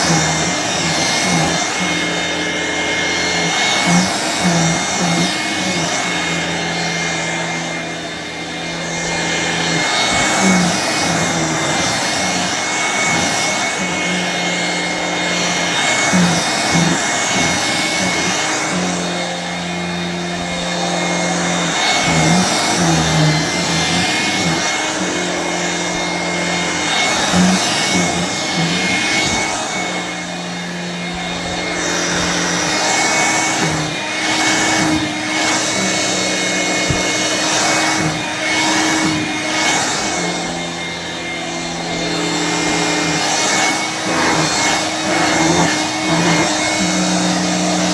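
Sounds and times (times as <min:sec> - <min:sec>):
handheld vacuum running: 0:00.0 - 0:47.9.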